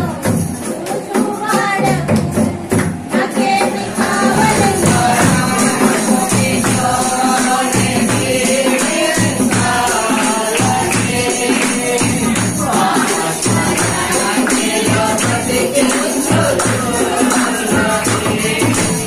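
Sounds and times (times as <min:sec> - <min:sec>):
voices singing: 0:00.0 - 0:19.0
tambourines shaking: 0:03.0 - 0:19.0.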